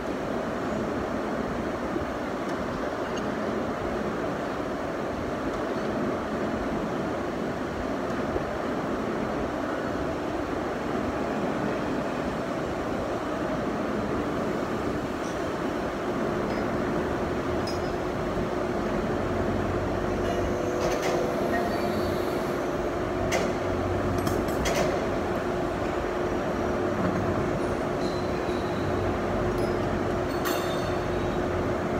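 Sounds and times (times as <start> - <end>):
lathes running hum: 0.0 - 31.9.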